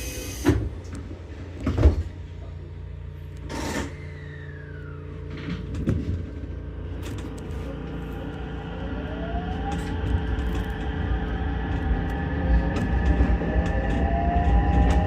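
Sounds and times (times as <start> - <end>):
train inverter whine rising: 0.0 - 15.0.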